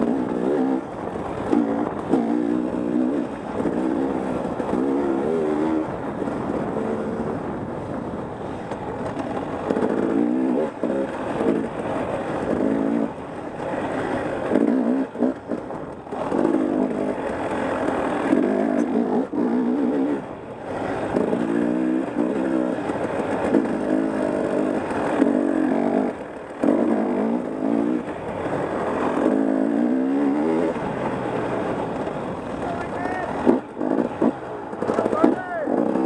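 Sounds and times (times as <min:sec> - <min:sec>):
dirt bike engine revving: 0:00.0 - 0:07.5, 0:09.0 - 0:36.0.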